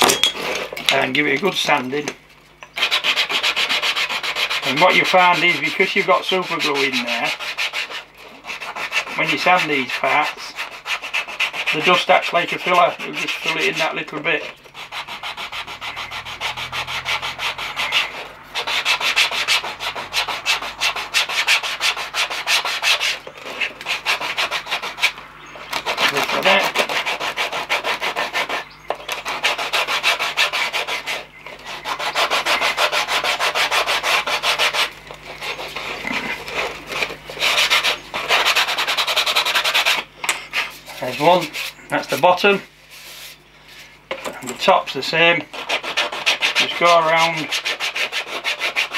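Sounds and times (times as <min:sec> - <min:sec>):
sanding strip scratching plastic: 0:02.7 - 0:48.9.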